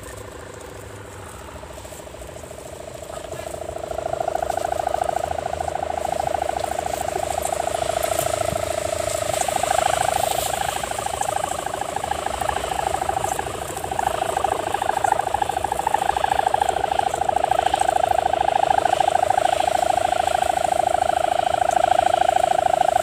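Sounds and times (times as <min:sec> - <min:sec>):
kite hummer bow buzzing drone: 0:00.0 - 0:23.0.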